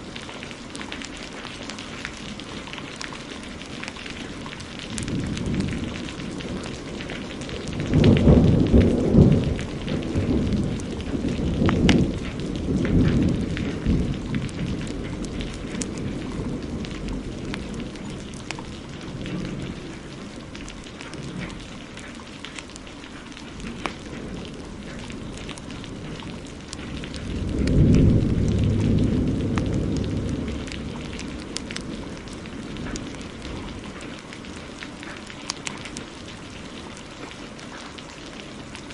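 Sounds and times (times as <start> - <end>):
heavy rain: 0.0 - 38.9
wood fire crackling: 0.0 - 38.9
thunder rumbling: 3.5 - 22.8, 23.4 - 37.7.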